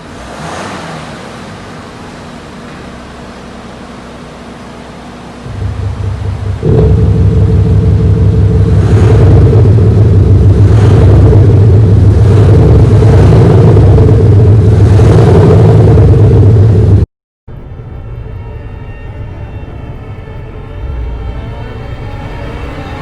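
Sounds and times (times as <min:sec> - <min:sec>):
deep car engine hum: 0:00.0 - 0:23.0.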